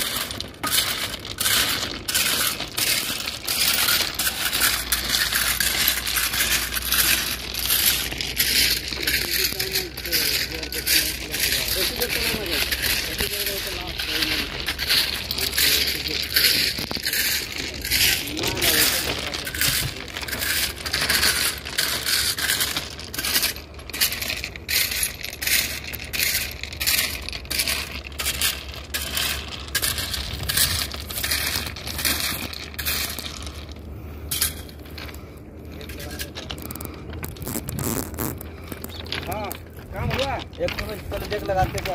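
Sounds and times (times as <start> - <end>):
footsteps crunching on stones: 0.0 - 41.9
stones clinking: 0.0 - 41.9.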